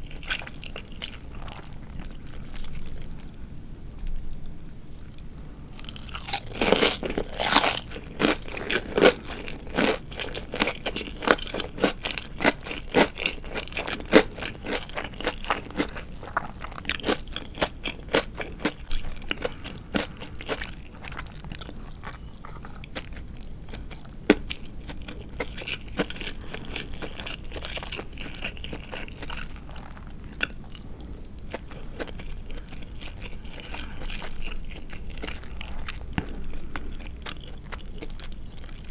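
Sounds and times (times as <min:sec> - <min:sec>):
chewing crispy fried chicken: 0:00.0 - 0:38.9.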